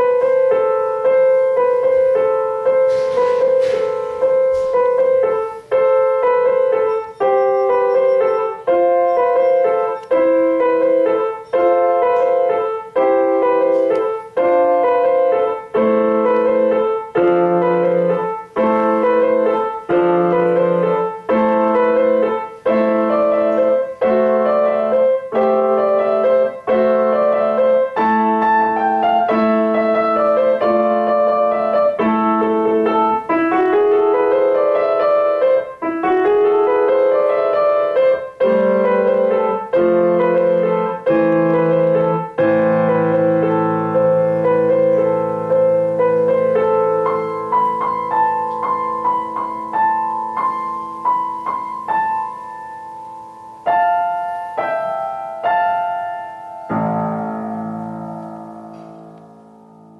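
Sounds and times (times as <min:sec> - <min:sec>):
piano playing chords: 0:00.0 - 0:59.9.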